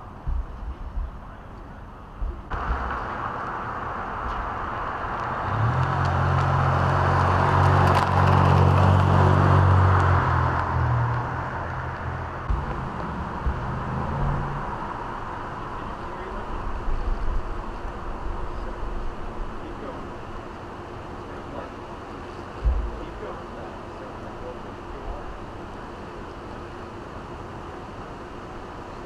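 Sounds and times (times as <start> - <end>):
vehicle engine drone passing: 2.0 - 29.0.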